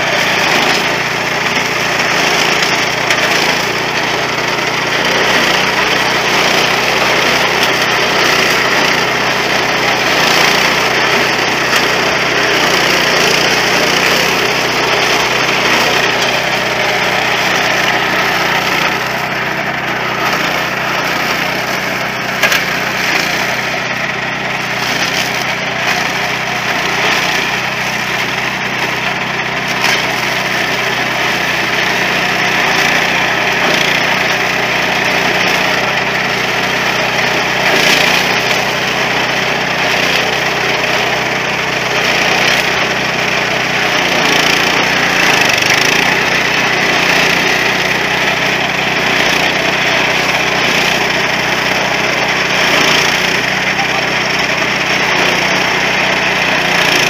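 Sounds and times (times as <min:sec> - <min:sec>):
small harvester engine running: 0:00.0 - 0:57.0.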